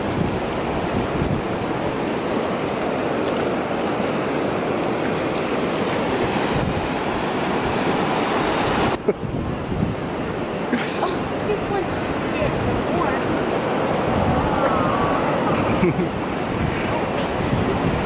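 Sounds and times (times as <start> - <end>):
surf washing over sand: 0.0 - 18.0.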